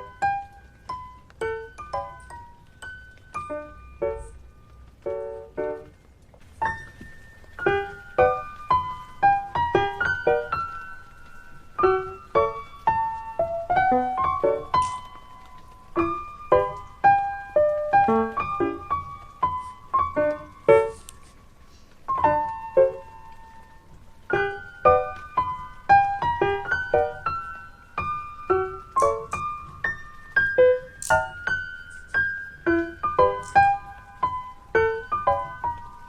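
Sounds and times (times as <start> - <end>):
light piano background music: 0.0 - 36.0.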